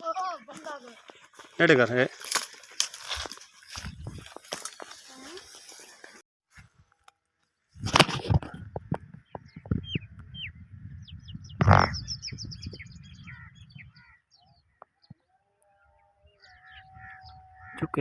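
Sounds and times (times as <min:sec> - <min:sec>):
small birds chirping: 0:00.0 - 0:06.2, 0:08.7 - 0:18.0.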